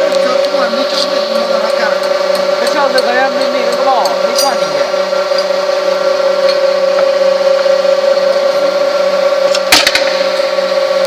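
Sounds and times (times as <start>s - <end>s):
milling machine whine: 0.0s - 11.0s.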